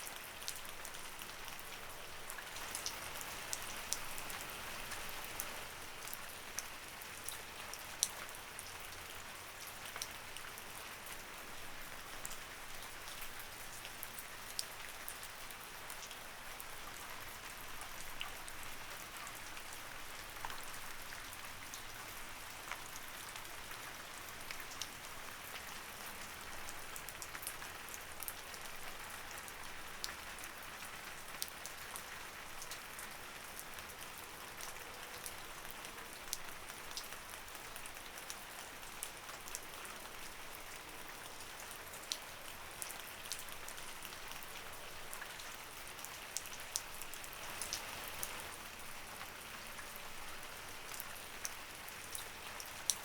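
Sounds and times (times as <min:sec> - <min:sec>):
light rain falling: 0:00.0 - 0:53.0
raindrops ticking on a surface: 0:00.0 - 0:53.0.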